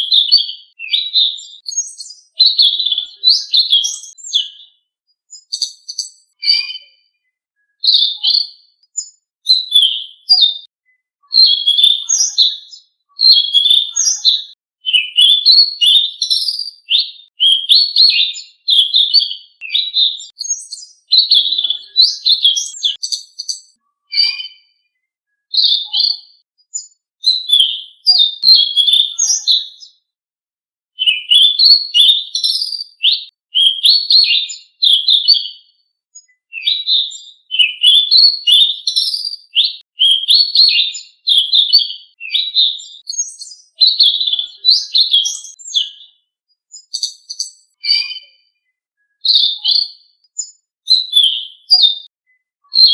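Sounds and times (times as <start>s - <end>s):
songbird chirping and warbling: 0.0s - 30.0s, 31.0s - 35.6s, 36.2s - 52.9s.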